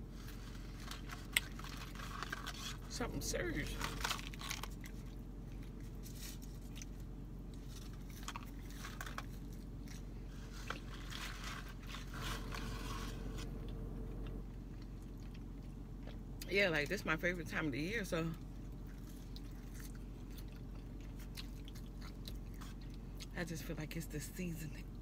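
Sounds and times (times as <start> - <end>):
person chewing crunchy fries: 0.0 - 16.5, 18.4 - 23.4.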